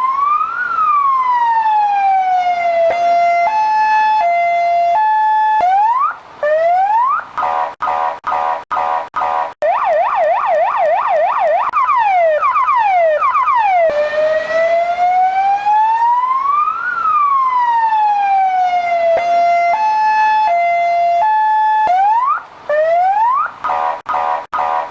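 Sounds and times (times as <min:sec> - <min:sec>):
ambulance siren: 0:00.0 - 0:24.9.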